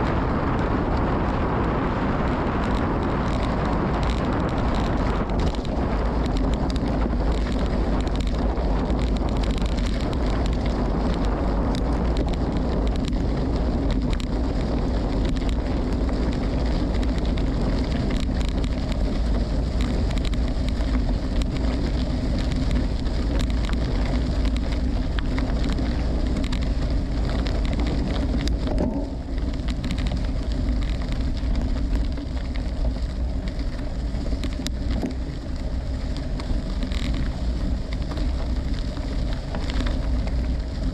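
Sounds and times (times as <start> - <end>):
bike tyres on gravel: 0.0 - 40.9
wind buffeting microphone: 0.0 - 40.9.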